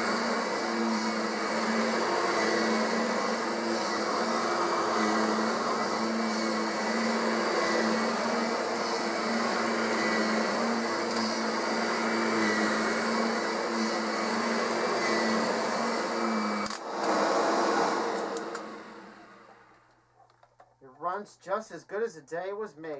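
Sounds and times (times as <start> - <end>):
upright vacuum cleaner on carpet: 0.0 - 19.8.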